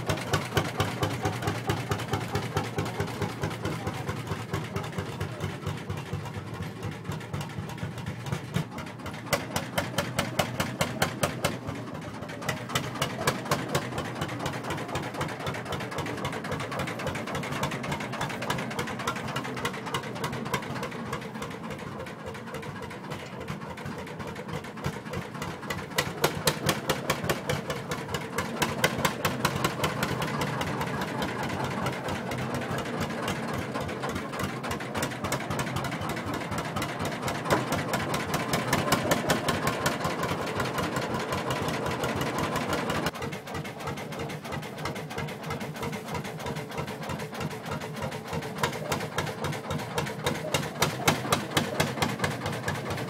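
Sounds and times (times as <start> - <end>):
tractor engine knocking: 0.0 - 53.0.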